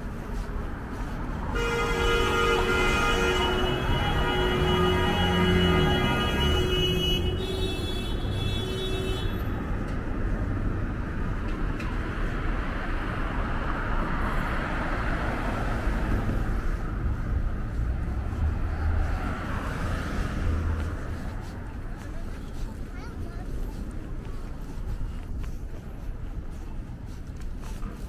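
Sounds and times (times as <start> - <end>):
cars passing: 0.0 - 28.0
low traffic rumble: 0.0 - 28.0.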